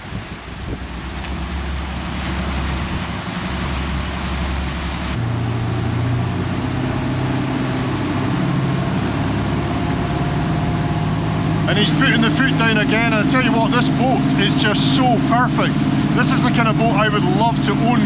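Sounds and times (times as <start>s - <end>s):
motorboat engine: 0.0s - 18.0s
water rushing: 0.0s - 18.0s
wind: 0.0s - 18.0s.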